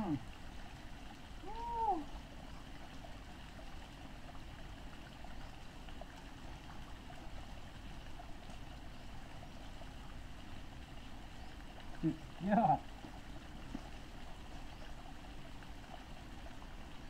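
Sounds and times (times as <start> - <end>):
waterfall running over rocks: 0.0 - 17.0.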